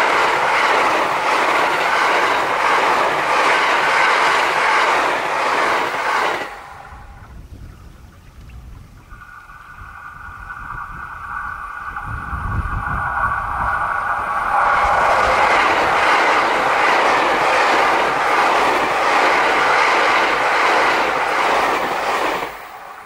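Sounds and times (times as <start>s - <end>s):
wheels clacking on rail: 0.0s - 7.2s, 9.0s - 23.0s
electric train passing at speed: 0.0s - 7.6s, 9.1s - 23.0s.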